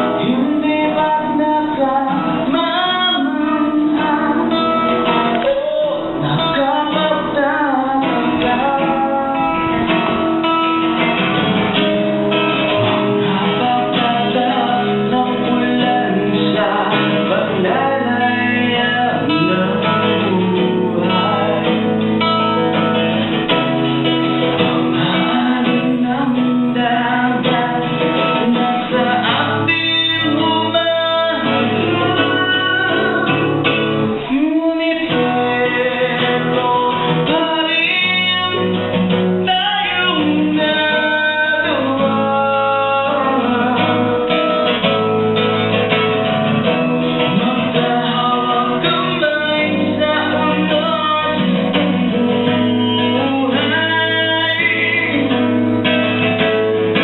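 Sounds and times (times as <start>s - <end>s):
plucked string accompaniment: 0.0s - 57.0s.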